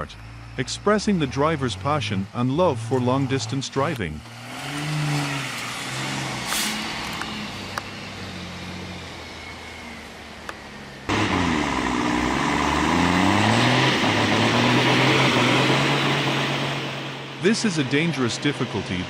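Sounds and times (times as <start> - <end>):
louder engine with shifting pitch: 0.0 - 19.0
truck diesel engine under load: 0.0 - 19.0.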